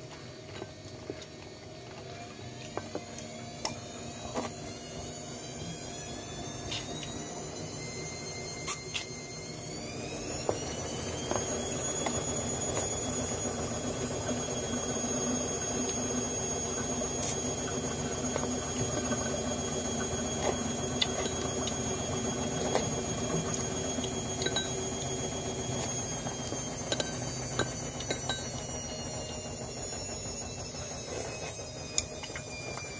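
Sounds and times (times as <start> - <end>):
high electric whine: 2.1 - 32.9.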